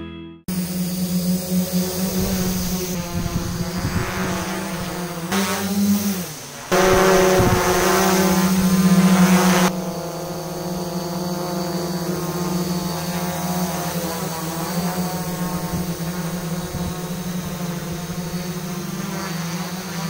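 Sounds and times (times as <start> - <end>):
quadcopter buzzing hum: 0.5 - 20.0.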